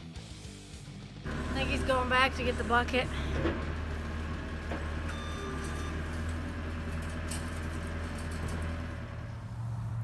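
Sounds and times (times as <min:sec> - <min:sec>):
distant skid steer engine: 0:01.2 - 0:10.0.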